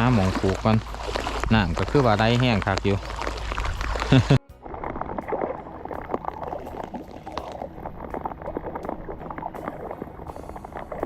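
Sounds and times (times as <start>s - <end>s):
steady watery rush: 0.0s - 11.0s
water splashing and sloshing: 0.0s - 11.0s.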